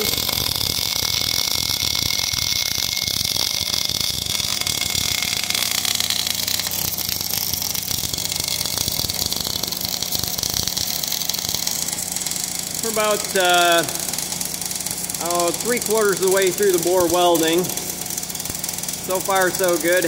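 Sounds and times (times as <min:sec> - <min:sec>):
low machine hum: 0:00.0 - 0:20.0
welding arc crackling hiss: 0:00.0 - 0:20.0.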